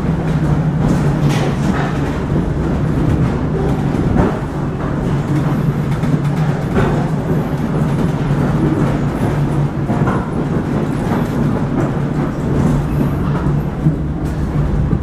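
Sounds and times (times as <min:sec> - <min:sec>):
knocks and rattles of car body: 0:00.0 - 0:15.0
train car interior rumble: 0:00.0 - 0:15.0.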